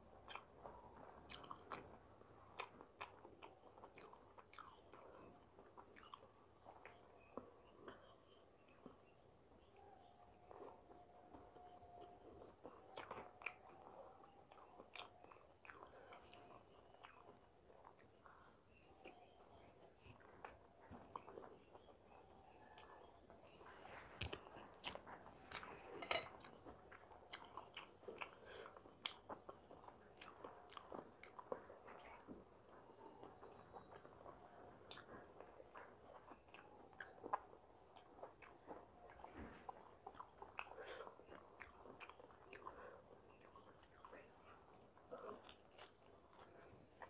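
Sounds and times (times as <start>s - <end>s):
food crunching: 0.1s - 47.0s.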